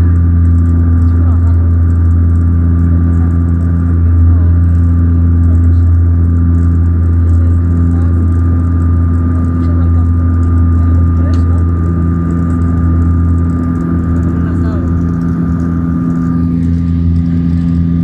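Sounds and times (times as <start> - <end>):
high whine: 0.0 - 18.0
propeller engines droning: 0.0 - 18.0.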